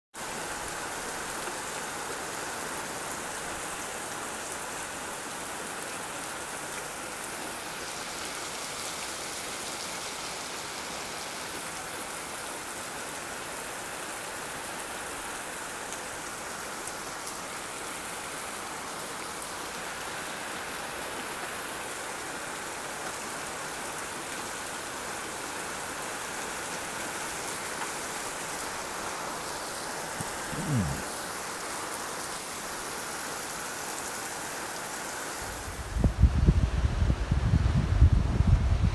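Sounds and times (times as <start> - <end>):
heavy rain through trees: 0.1 - 38.9.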